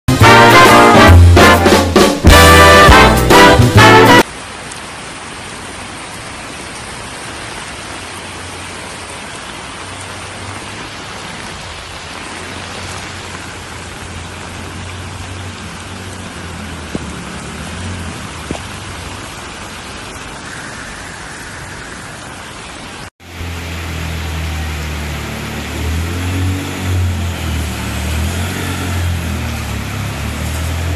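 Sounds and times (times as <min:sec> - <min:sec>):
heavy rain pouring: 0:00.1 - 0:30.9
motorcycle riding through water: 0:03.4 - 0:21.8, 0:22.6 - 0:30.9.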